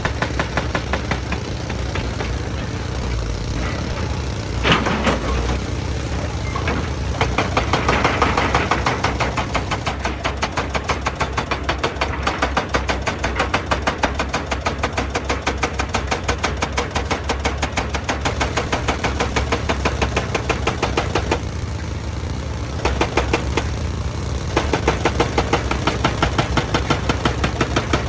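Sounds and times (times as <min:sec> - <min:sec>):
diesel engine running: 0:00.0 - 0:28.0
hydraulic breaker hammering stone: 0:00.0 - 0:28.0.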